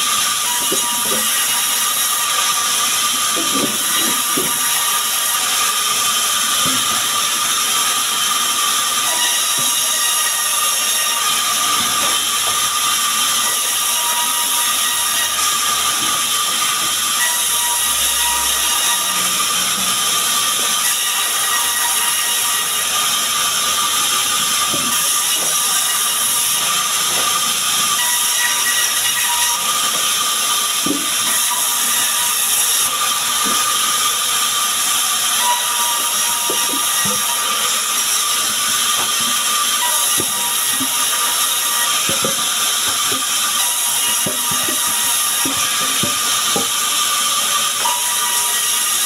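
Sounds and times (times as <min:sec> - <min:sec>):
band saw blade whining in wood: 0:00.0 - 0:49.0.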